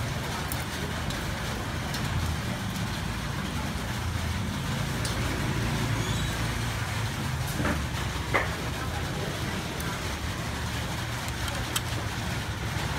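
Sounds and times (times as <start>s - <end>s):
street traffic rumble and hiss: 0.0s - 12.9s.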